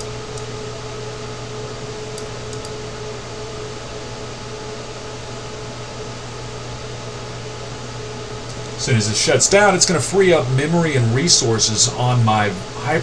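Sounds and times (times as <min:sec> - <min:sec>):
fan-like room hum and hiss: 0:00.0 - 0:13.0
low hum: 0:00.0 - 0:13.0.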